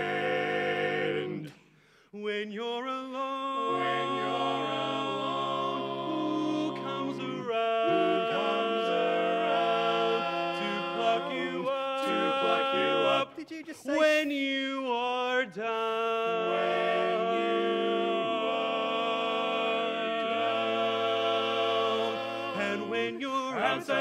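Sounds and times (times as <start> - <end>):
male quartet singing a cappella: 0.0 - 24.0.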